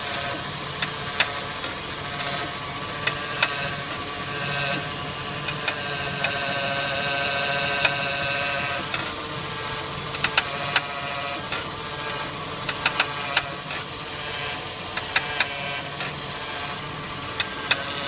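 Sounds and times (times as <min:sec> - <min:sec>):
car engine whine: 0:00.0 - 0:18.0.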